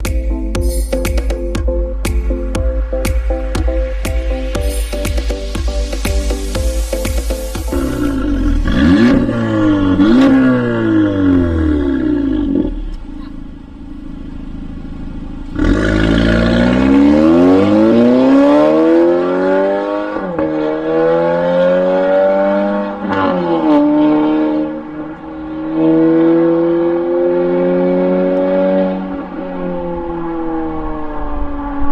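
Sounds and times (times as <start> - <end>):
car exhaust accelerating hard: 6.0 - 31.9.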